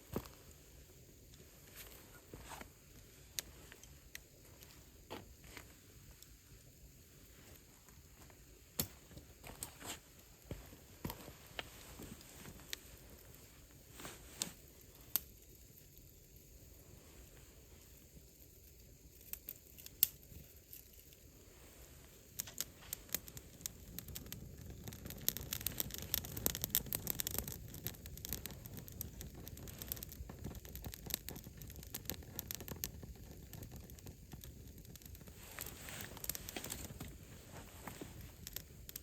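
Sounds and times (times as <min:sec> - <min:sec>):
campfire crackling and popping: 0:00.0 - 0:39.0
low rumble of flame: 0:00.0 - 0:39.0.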